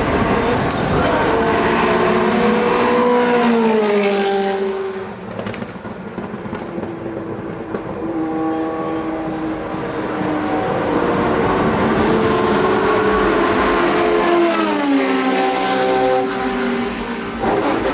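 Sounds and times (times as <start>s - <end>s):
racing car engines at speed: 0.0s - 17.9s.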